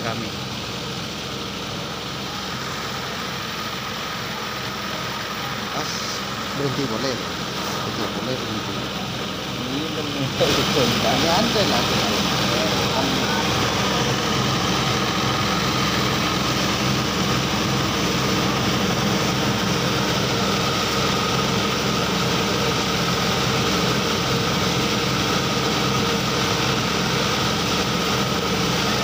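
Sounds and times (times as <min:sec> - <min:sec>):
rice thresher engine running: 0:00.0 - 0:29.0.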